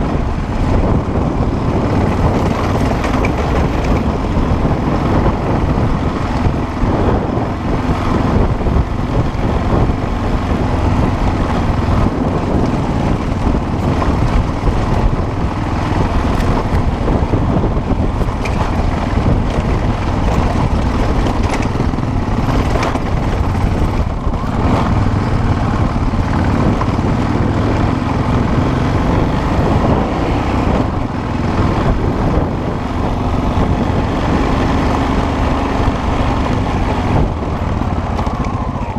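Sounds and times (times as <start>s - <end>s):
off-road motorcycle engine: 0.0s - 38.9s.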